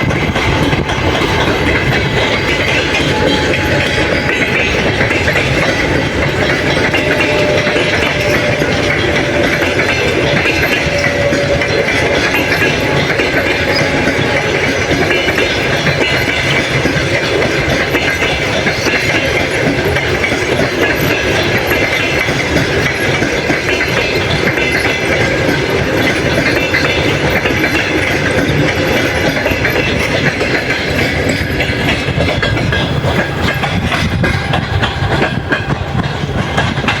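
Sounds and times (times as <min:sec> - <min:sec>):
train wheels clacking over rails: 0:00.0 - 0:37.0.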